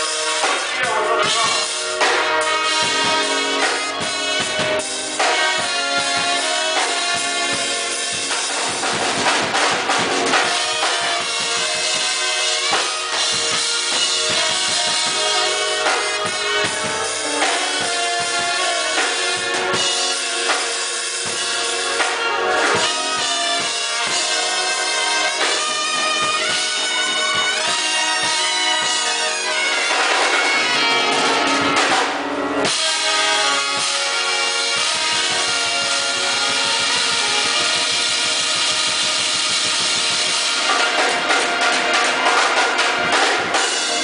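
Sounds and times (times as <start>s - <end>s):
drum kit playing steady beat: 0.0s - 44.0s
pitched instruments playing music: 0.0s - 44.0s.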